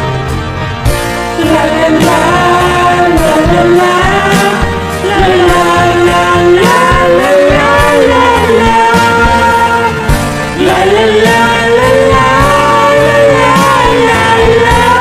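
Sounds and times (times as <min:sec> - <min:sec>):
gliding lead melody: 0:00.0 - 0:15.0
pop ballad music: 0:00.0 - 0:15.0.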